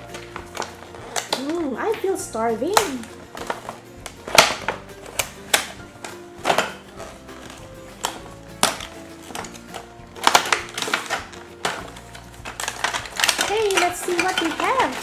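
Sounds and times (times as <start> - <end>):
background music: 0.0 - 15.0
plastic packaging clicks and taps: 0.0 - 15.0.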